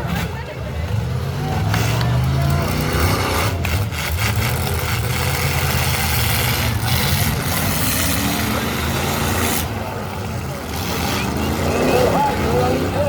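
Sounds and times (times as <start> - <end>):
car engine revving: 0.0 - 13.0
car engines running loud: 0.0 - 13.0.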